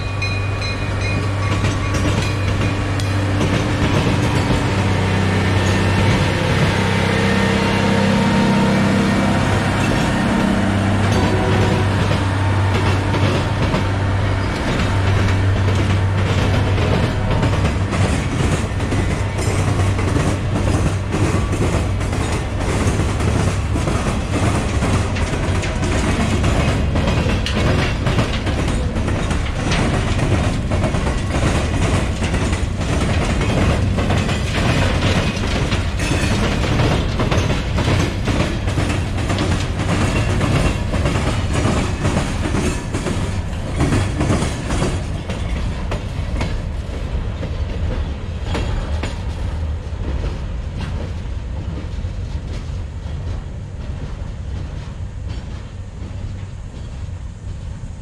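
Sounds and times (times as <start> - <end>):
low train rumble: 0.0 - 58.0
train wheels clacking over rail joints: 0.0 - 58.0.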